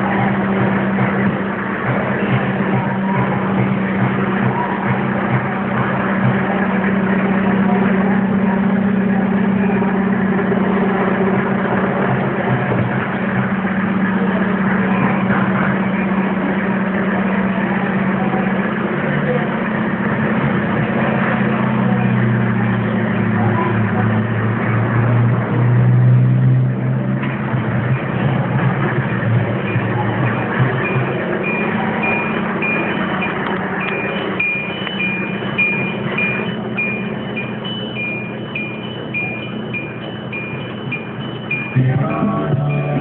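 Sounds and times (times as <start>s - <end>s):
car engine idling: 0.0s - 43.0s
deep hum: 0.0s - 43.0s.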